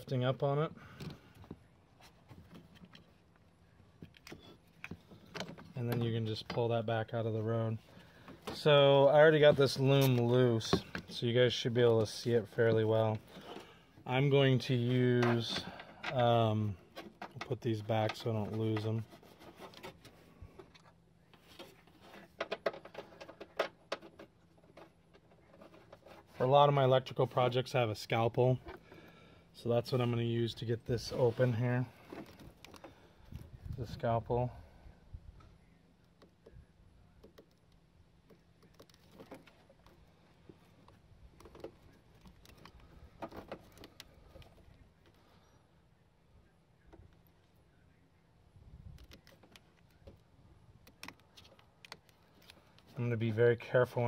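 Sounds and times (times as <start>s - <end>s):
hands handling plastic wiring: 0.9s - 34.3s, 37.2s - 45.4s, 48.9s - 53.1s.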